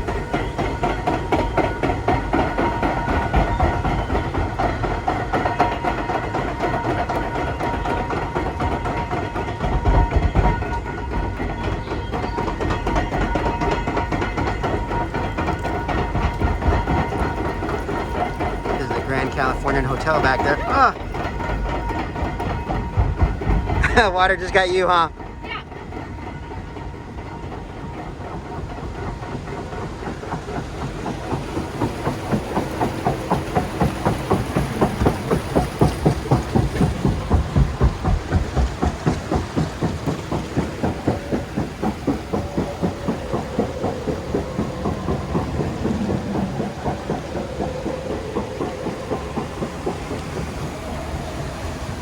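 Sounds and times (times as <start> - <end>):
conveyor lift clacking rhythmically: 0.0 - 52.0.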